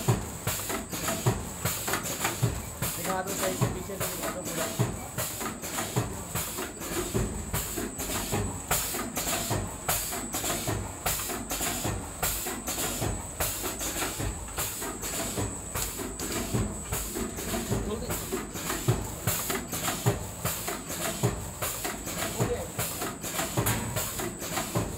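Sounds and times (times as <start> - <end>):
packing machine clacking strokes: 0.0 - 24.9.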